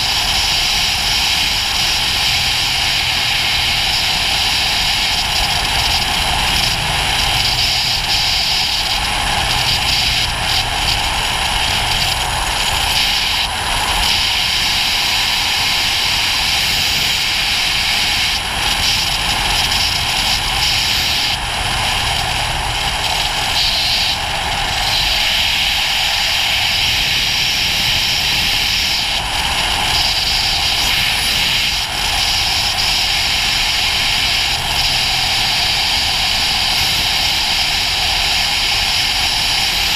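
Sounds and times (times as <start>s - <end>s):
motorcycle engine droning: 0.0s - 39.9s
wind and road noise: 0.0s - 39.9s.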